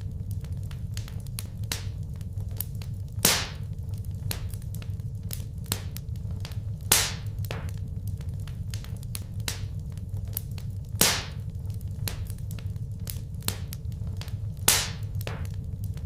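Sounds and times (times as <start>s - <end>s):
loud sharp snaps of fire: 0.0s - 16.0s
low rumble of flames: 0.0s - 16.0s
wood fire crackling: 0.0s - 16.0s.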